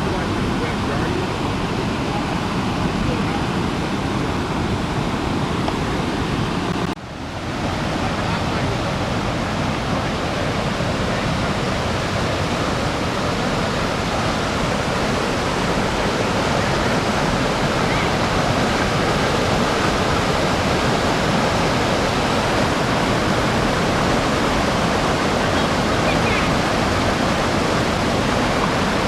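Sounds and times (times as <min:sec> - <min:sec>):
flood water rushing: 0:00.0 - 0:29.0.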